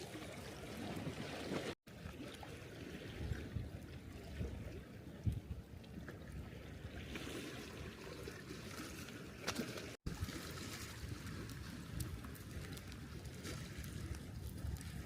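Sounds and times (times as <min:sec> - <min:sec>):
water lapping at shoreline: 0:00.0 - 0:15.0.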